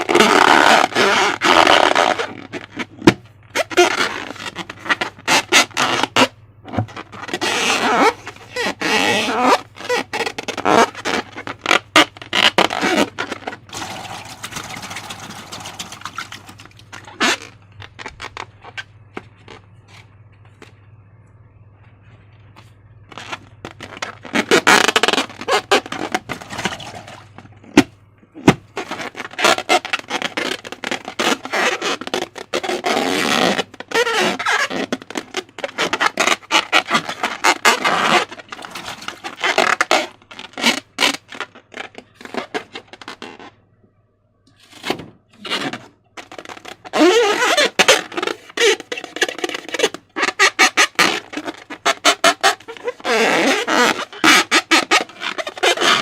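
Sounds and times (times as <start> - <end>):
slime squeaks: 0.0 - 19.6, 23.1 - 27.8, 28.4 - 43.6, 44.8 - 56.0.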